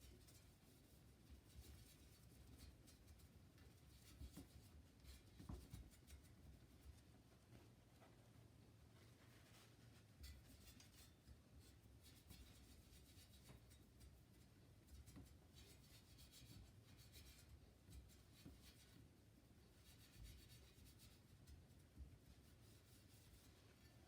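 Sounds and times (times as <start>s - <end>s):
faint rubbing and scratching: 0.0s - 24.0s.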